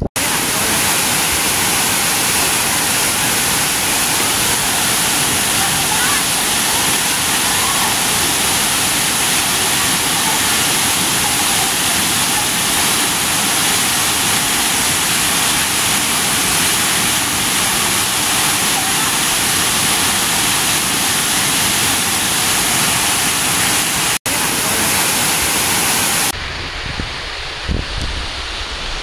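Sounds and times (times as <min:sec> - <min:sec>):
waterfall rushing into pool: 0:00.0 - 0:29.0.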